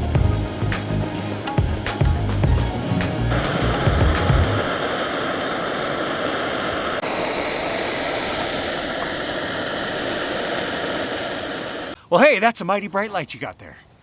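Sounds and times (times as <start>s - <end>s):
steady rushing hiss: 0.0s - 12.3s.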